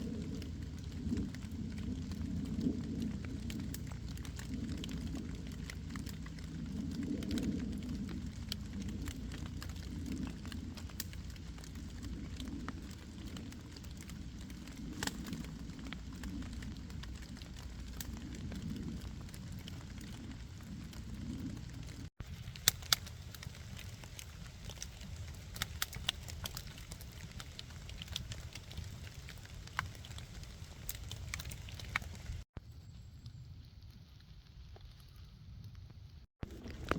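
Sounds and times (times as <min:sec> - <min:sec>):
campfire crackling and popping: 0:00.0 - 0:36.9
low rumble: 0:00.0 - 0:36.9.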